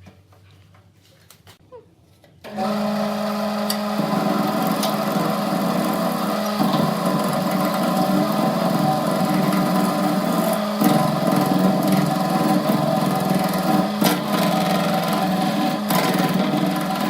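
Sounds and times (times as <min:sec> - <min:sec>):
lathe motor humming: 0:02.5 - 0:17.0.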